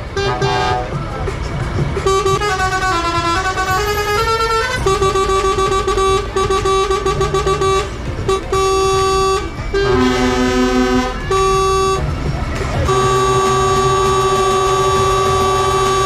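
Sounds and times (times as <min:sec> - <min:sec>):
low horn pulsing rapidly: 0:00.0 - 0:01.0, 0:02.0 - 0:12.1, 0:12.8 - 0:16.0
truck horns honking: 0:00.0 - 0:01.1, 0:02.0 - 0:16.0.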